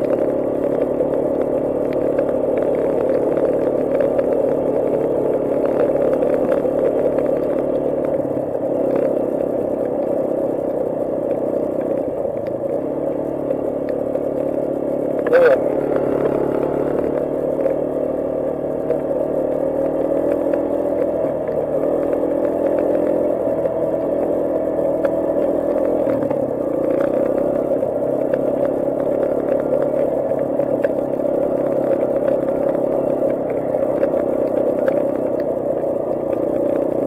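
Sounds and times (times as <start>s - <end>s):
quad bike engine running: 0.0s - 37.0s.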